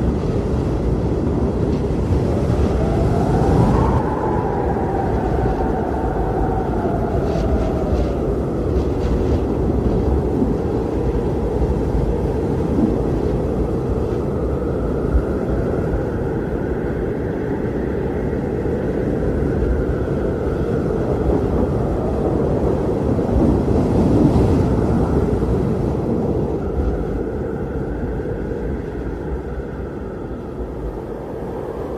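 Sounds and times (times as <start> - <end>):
wind blowing hard: 0.0 - 31.9.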